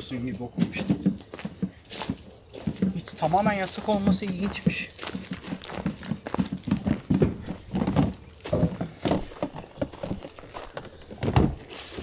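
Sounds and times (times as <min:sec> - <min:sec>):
camping gear knocking and clattering: 0:00.0 - 0:12.0.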